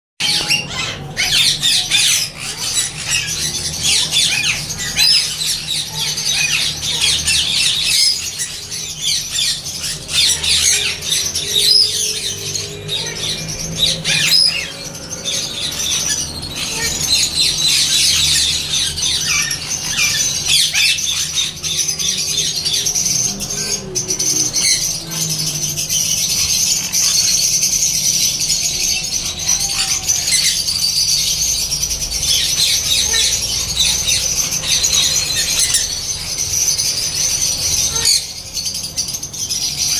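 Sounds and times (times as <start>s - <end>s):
parrots chattering and squawking: 0.2s - 39.9s.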